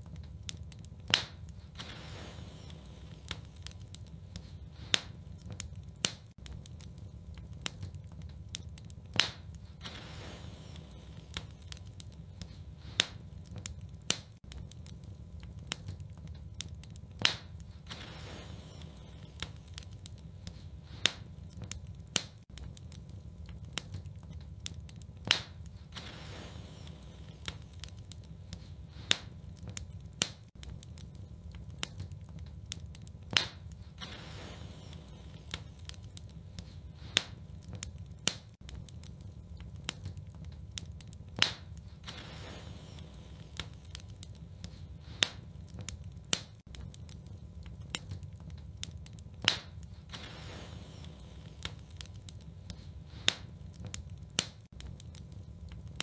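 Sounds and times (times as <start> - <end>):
sharp fire pops: 0.0 - 56.0
wood fire crackling: 0.0 - 56.0.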